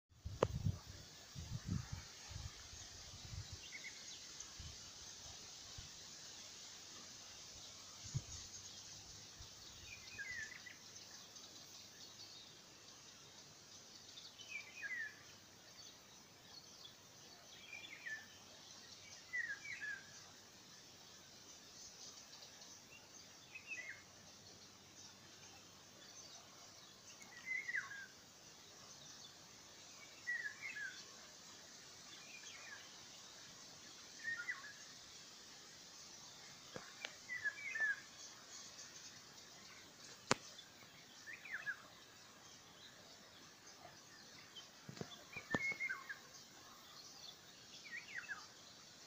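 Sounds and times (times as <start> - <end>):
faint outdoor background noise: 0.1 - 49.0
songbird singing: 0.1 - 49.0.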